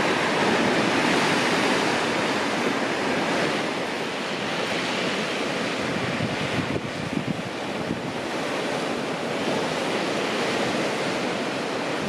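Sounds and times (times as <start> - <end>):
sea surf washing on shore: 0.0 - 12.0.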